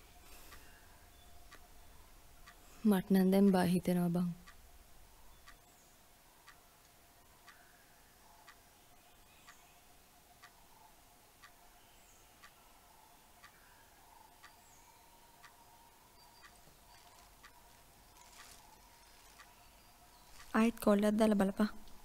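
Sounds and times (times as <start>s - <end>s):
clock ticking: 0.0s - 5.8s, 6.4s - 8.7s, 10.2s - 11.8s, 12.4s - 22.0s
low steady hum: 0.0s - 22.0s.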